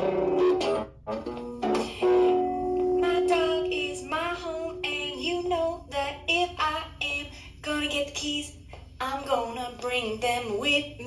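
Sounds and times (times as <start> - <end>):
woman singing: 1.7 - 11.0.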